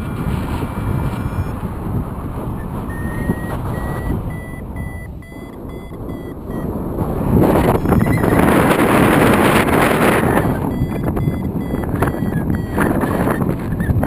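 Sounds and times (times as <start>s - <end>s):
wind rumbling on microphone: 0.0s - 14.0s
variometer beeping: 1.2s - 1.6s, 2.5s - 14.0s.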